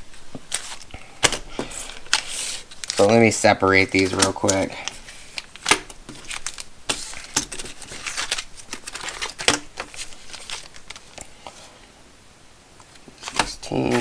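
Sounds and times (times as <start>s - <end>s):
rustling: 0.0s - 12.0s, 12.8s - 14.0s.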